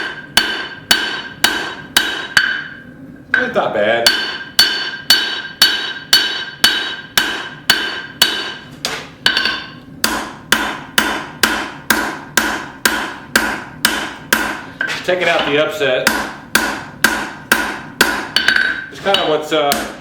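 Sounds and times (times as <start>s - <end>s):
hammer striking steel on anvil: 0.0s - 20.0s.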